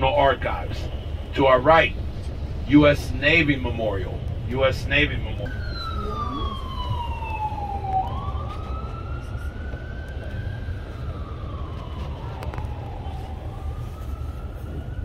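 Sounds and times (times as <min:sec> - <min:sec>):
emergency vehicle siren wailing: 0:00.0 - 0:15.0
low rumble of traffic: 0:00.0 - 0:15.0.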